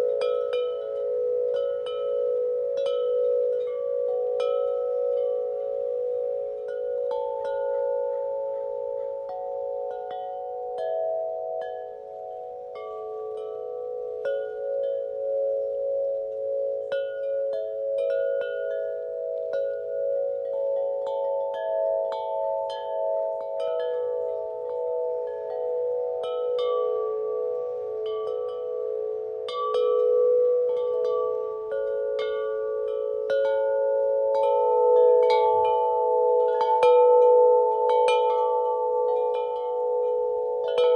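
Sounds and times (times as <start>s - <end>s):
wind chimes ringing: 0.0s - 40.9s.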